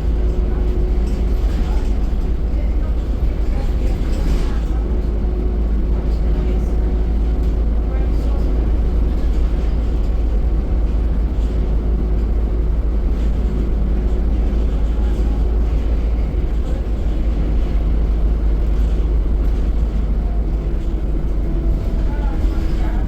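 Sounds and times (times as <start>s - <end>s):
diesel bus engine rumbling: 0.0s - 23.0s.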